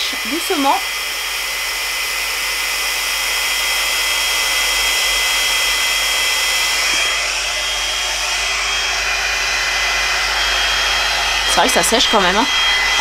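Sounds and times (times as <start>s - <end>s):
hair dryer fan blowing air: 0.0s - 13.0s.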